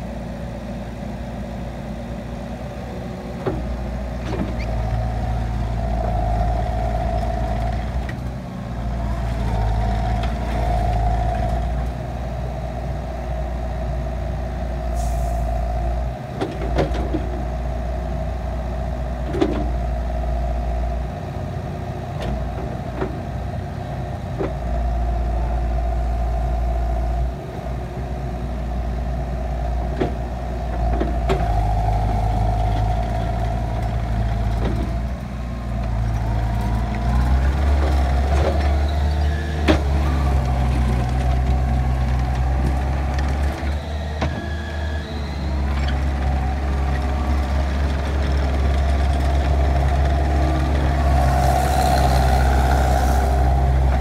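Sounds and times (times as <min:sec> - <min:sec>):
track loader diesel engine: 0:00.0 - 0:54.0.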